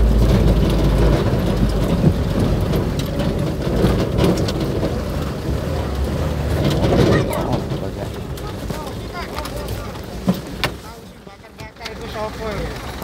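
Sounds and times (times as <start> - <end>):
clicks and rattles: 0.0 - 13.0
truck engine rumble: 0.0 - 13.0.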